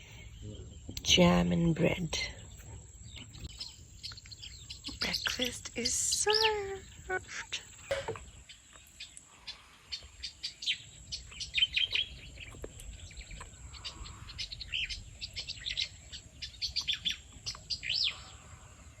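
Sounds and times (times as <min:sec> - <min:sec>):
small birds chirping: 0:00.0 - 0:19.0
swooping bird calls: 0:02.4 - 0:19.0.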